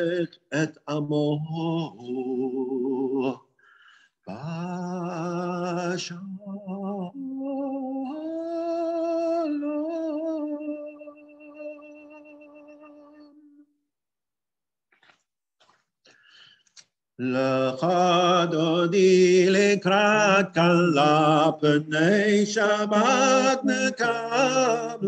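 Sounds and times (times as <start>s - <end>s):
man singing wordless tune: 0.0s - 3.5s, 4.3s - 13.6s, 17.2s - 25.0s.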